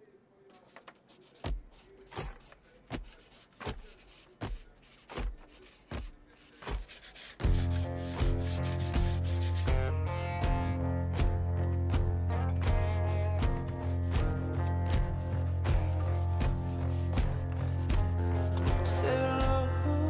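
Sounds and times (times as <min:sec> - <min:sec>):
rhythmic rubbing strokes: 0:00.6 - 0:09.9, 0:12.3 - 0:19.7.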